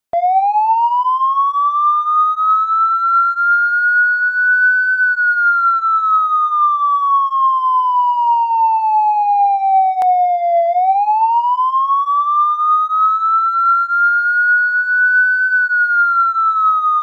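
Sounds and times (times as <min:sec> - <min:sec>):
police siren wailing: 0:00.2 - 0:17.0.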